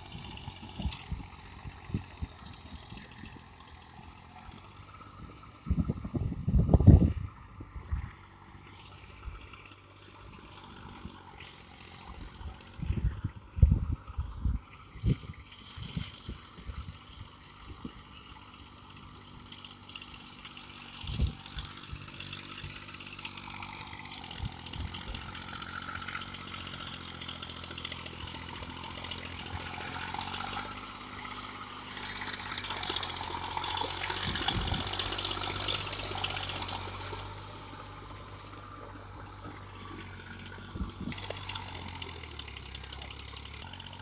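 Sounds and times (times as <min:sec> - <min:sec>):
tractor diesel engine: 0:00.0 - 0:44.0.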